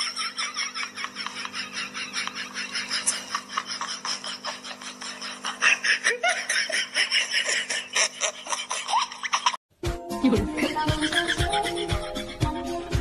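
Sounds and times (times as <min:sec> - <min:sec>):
laughter: 0:00.0 - 0:09.6, 0:10.8 - 0:12.5.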